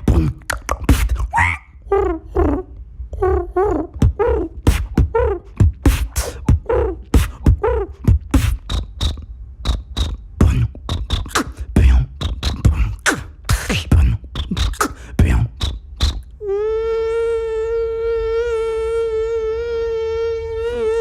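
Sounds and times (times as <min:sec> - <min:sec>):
beatboxing: 0:00.0 - 0:21.0
held hum: 0:00.0 - 0:21.0.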